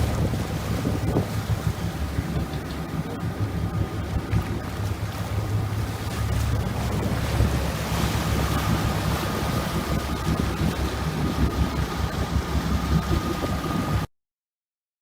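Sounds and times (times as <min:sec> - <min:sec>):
low engine hum: 0:00.0 - 0:14.1
water noise: 0:00.0 - 0:14.1
wind buffeting microphone: 0:00.0 - 0:14.1.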